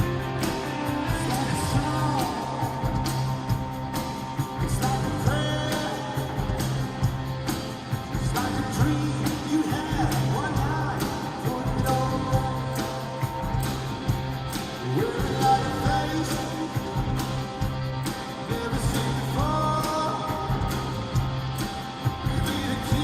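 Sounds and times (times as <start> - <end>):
person singing: 0.0 - 7.2, 7.9 - 14.0, 14.6 - 21.2, 22.0 - 23.0
rock band playing live: 0.0 - 23.0
steady drum beat: 0.0 - 23.0.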